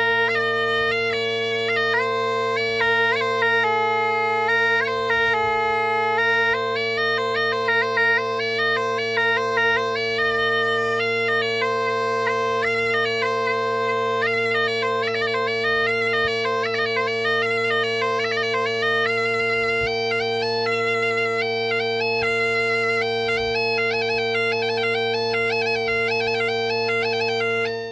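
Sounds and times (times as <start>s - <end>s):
bagpipe chanter melody: 0.0s - 27.9s
bagpipe drone: 0.0s - 27.9s.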